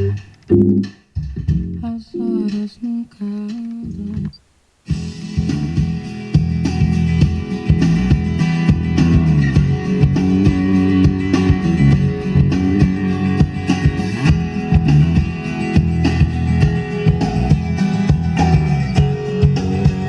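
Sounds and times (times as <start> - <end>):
guitar song through car speakers: 0.0 - 20.0.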